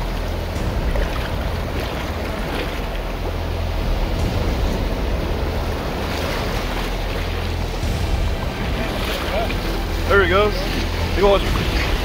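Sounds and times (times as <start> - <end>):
shallow surf washing: 0.0 - 12.0
wind on microphone: 0.0 - 12.0.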